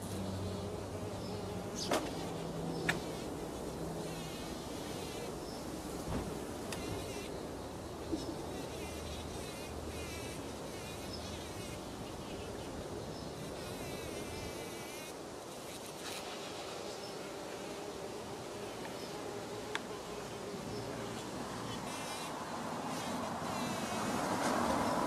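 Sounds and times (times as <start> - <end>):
bumblebee buzzing: 0.0 - 25.0.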